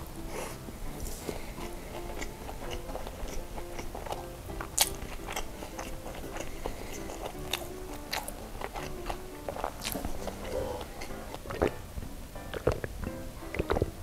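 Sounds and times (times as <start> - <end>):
mouth clicks: 0.0 - 14.0
wet chewing: 0.0 - 14.0.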